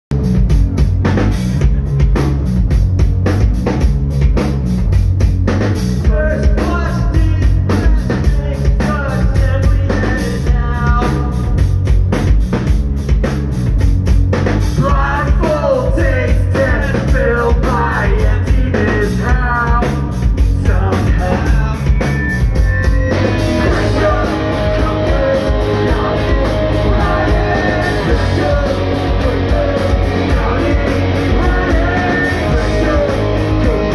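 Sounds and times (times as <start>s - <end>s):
distorted electric guitar and bass: 0.0s - 33.9s
pounding drum kit: 0.1s - 33.9s.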